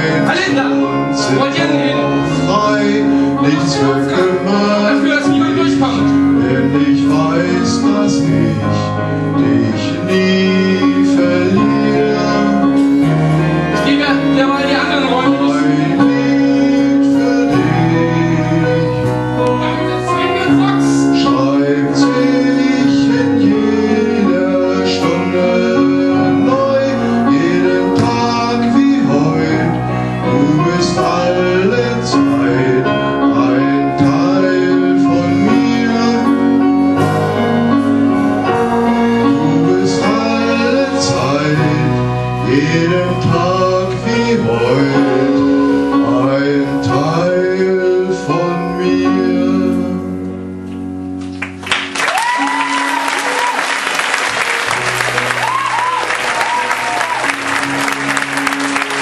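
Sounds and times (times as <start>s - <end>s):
person singing: 0.0s - 50.6s
instrumental accompaniment with beat: 0.0s - 59.0s.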